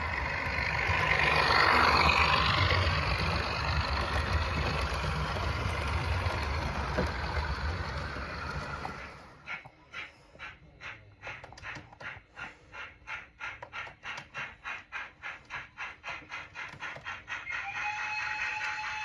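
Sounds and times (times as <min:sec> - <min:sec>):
model locomotive chuffing: 0:00.0 - 0:19.0.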